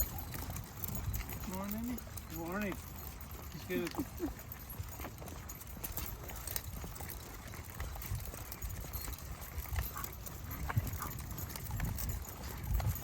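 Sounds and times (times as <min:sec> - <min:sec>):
footsteps of walker and dogs: 0:00.0 - 0:13.0.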